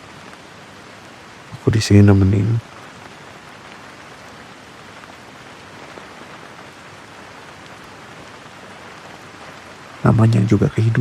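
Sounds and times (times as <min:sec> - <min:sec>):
faint raindrop ticks: 0:00.0 - 0:11.0
rain hissing: 0:00.0 - 0:11.0.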